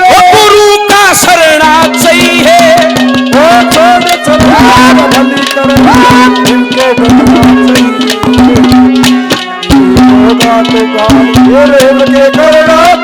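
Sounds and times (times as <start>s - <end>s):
folk music with held note: 0.0s - 13.0s
hand drum strokes: 1.9s - 13.0s.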